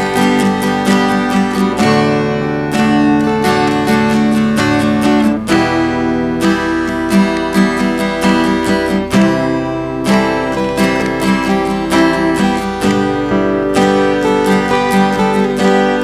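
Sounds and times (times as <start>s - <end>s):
acoustic guitars strumming: 0.0s - 16.0s.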